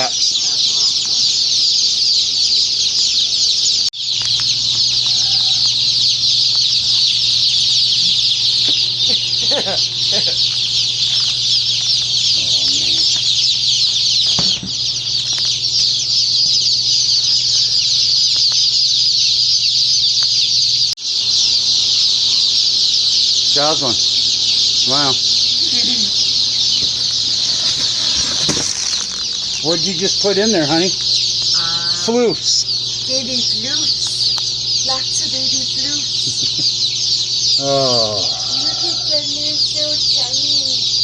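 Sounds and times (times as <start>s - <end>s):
chicks peeping: 0.0s - 41.0s.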